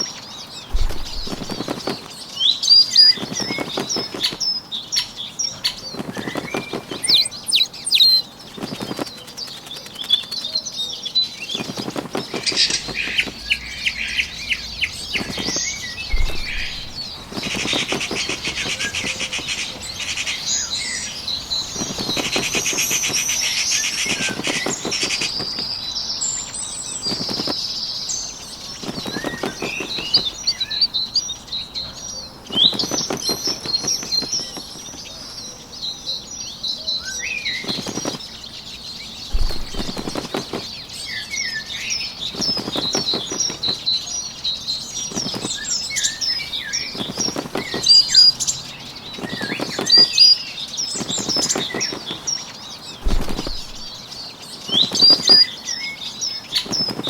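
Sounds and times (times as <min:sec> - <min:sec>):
bird chirping: 0:00.0 - 0:57.0
bird wings flapping: 0:00.6 - 0:25.9, 0:26.8 - 0:27.8, 0:28.4 - 0:31.0, 0:32.4 - 0:35.1, 0:37.5 - 0:41.1, 0:42.2 - 0:55.6, 0:56.5 - 0:57.0.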